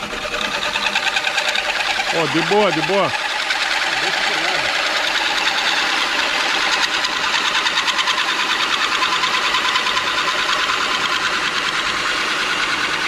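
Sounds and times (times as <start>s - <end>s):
drill press hole saw cutting metal: 0.0s - 13.0s.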